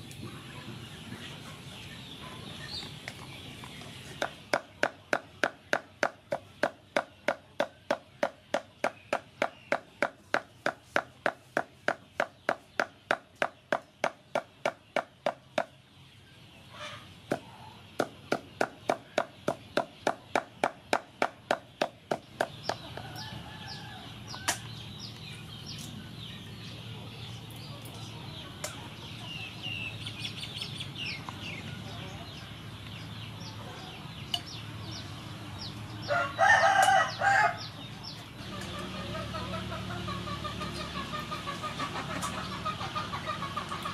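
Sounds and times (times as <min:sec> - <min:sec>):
high chirping bird calls: 0:00.0 - 0:11.2, 0:11.8 - 0:43.9.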